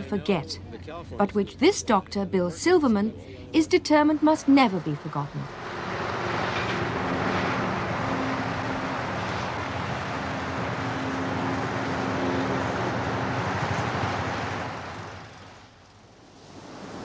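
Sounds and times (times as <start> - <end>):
faint hum: 0.0 - 17.0
road traffic on bridge: 2.6 - 17.0.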